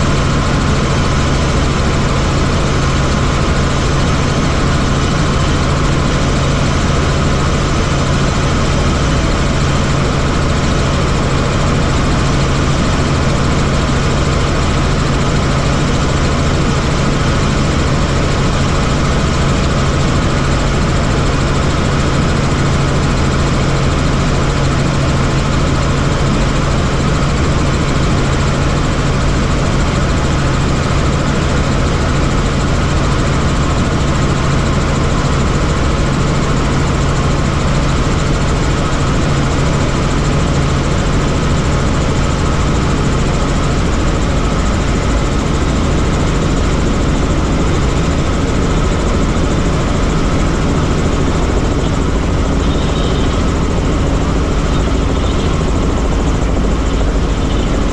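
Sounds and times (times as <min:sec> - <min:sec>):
helicopter rotor and engine drone: 0:00.0 - 0:57.9.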